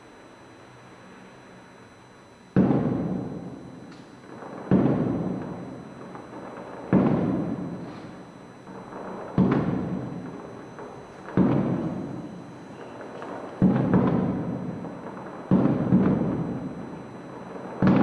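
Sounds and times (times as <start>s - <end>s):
firework booms with rolling echo: 2.5s - 18.0s.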